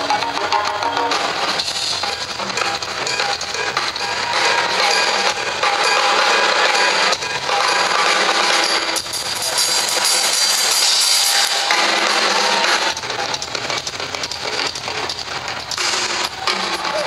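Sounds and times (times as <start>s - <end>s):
drum solo with cymbals: 0.0s - 17.0s
drum strokes: 0.0s - 17.0s.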